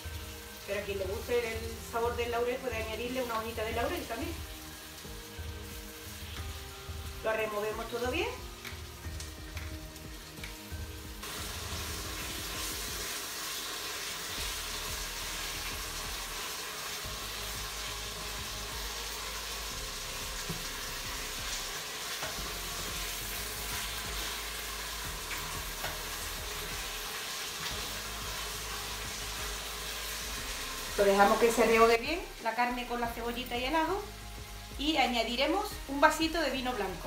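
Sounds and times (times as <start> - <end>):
meat sizzling in oil: 0.0 - 37.0.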